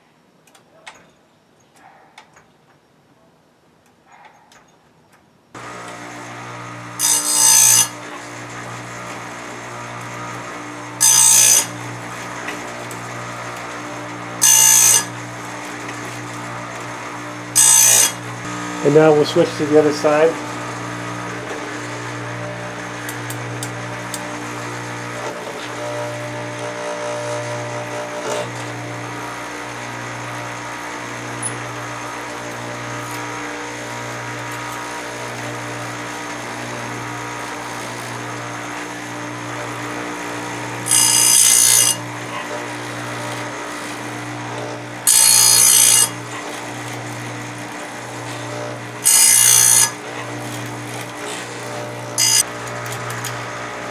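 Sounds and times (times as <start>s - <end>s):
grinding wheel on saw chain: 5.6s - 53.9s
sharpener motor humming: 5.6s - 53.9s.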